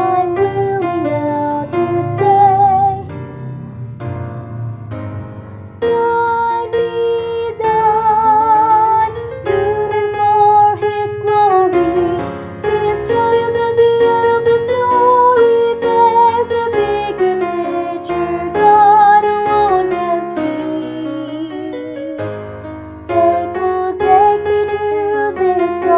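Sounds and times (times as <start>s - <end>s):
woman singing with vibrato: 0.0s - 3.1s, 5.8s - 22.3s, 23.0s - 25.9s
piano accompaniment: 0.0s - 25.9s.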